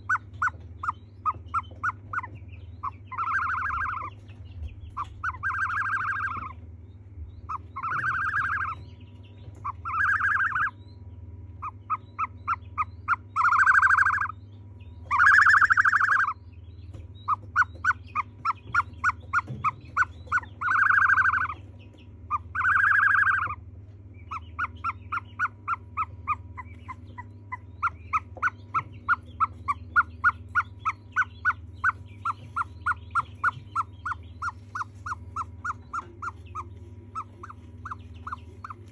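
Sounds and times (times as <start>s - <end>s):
ostrich chick peeping: 0.0s - 38.9s
steady low hum: 0.0s - 38.9s.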